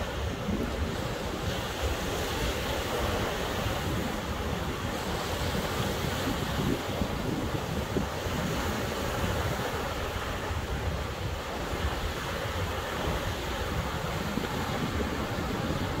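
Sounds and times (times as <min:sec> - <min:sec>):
ocean surf on shore: 0:00.0 - 0:16.0
wind buffeting microphone: 0:00.0 - 0:16.0.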